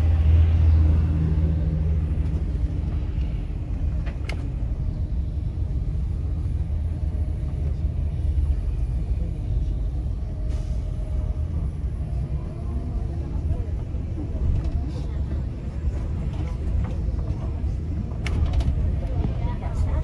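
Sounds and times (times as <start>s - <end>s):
vehicle rumble from inside cabin: 0.0s - 20.0s.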